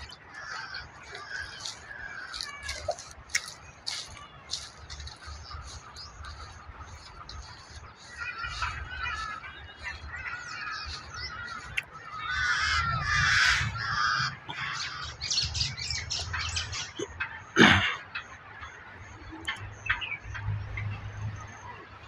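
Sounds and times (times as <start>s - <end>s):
birds calling: 0.0s - 20.9s.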